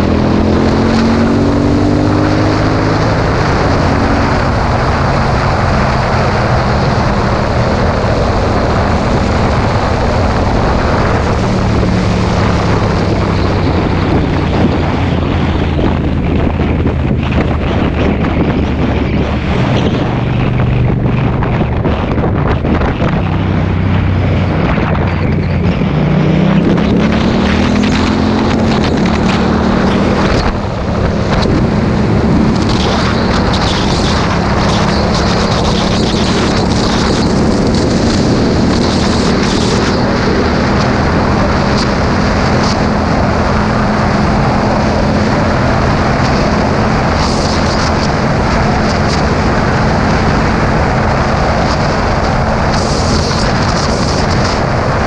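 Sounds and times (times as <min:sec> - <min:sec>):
motorcycle engine accelerating: 0:00.0 - 0:55.0
wind buffeting microphone: 0:00.0 - 0:55.0.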